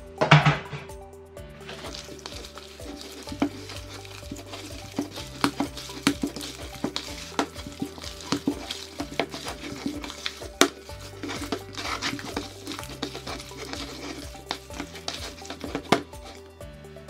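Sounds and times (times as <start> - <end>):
hand kneading wet mixture: 1.6 - 16.6.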